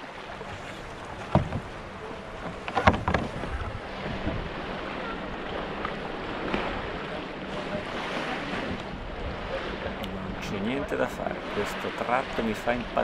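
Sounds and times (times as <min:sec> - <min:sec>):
paddle splashing water: 0:00.0 - 0:13.0
water lapping: 0:00.0 - 0:13.0
wind on microphone: 0:00.5 - 0:10.9.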